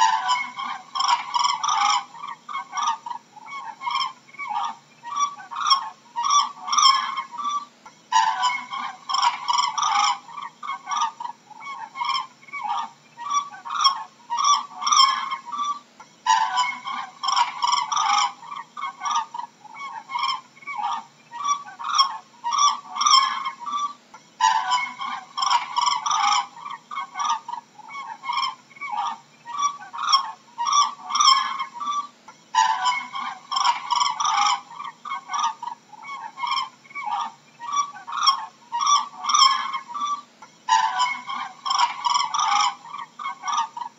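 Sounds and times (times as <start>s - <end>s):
cranes calling: 0.0s - 43.9s.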